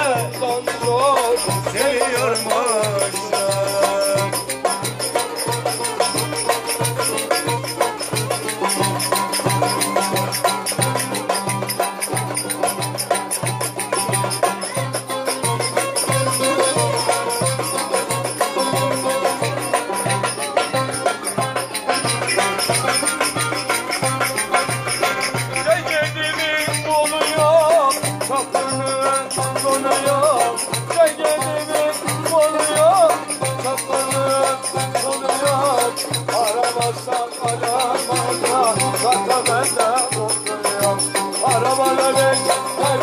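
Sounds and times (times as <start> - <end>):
low drum beat: 0.0 - 43.0
plucked lute: 0.0 - 43.0
rattling percussion: 0.0 - 43.0
violin folk dance tune: 0.0 - 43.0.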